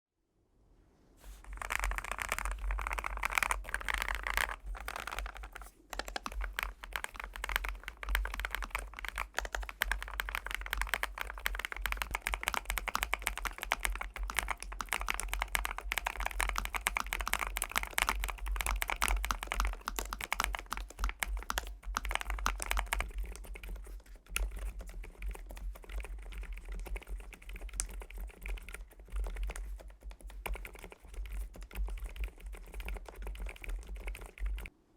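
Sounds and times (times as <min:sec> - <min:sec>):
mechanical keyboard typing: 0:01.4 - 0:34.7.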